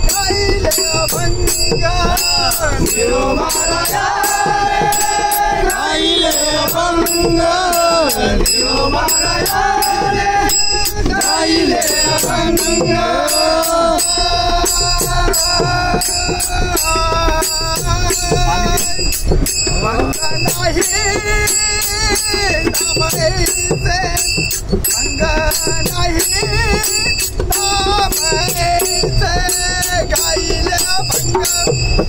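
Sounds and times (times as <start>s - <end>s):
hand cymbals striking: 0.0s - 32.0s
man singing: 0.0s - 32.0s.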